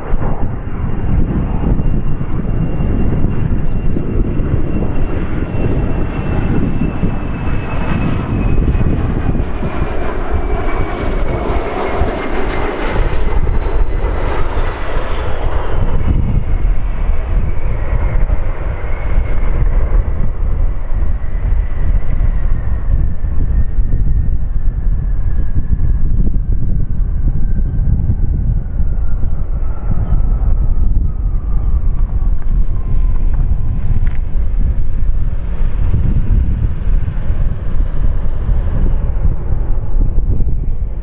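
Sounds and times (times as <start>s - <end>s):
airliner engines passing by: 0.0s - 41.0s
gusty wind buffeting microphone: 0.0s - 41.0s.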